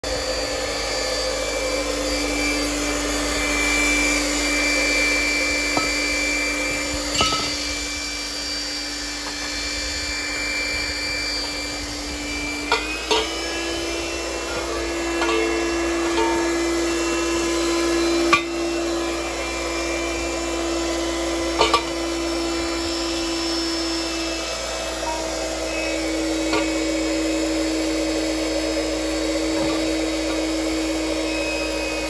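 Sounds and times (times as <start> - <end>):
hydraulic pump hum: 0.0 - 32.0.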